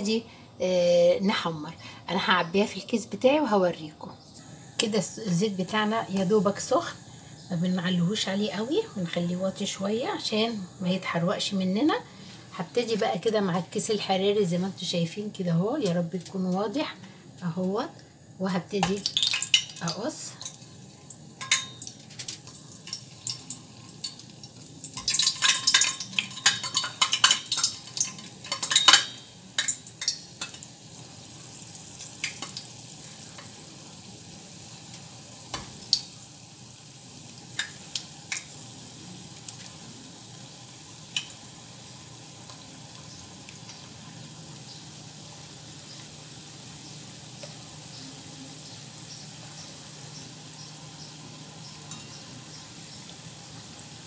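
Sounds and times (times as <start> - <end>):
oil sizzling with pops: 1.2 - 54.0.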